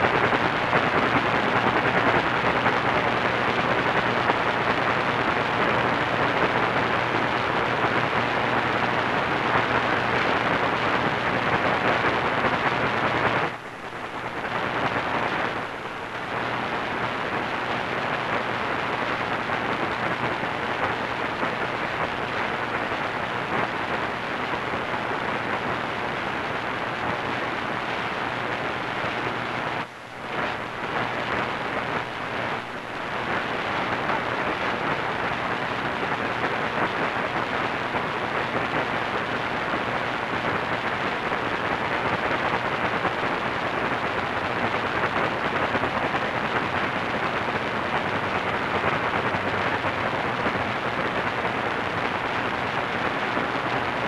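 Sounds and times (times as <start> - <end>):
radio static hiss and crackle: 0.0 - 54.0.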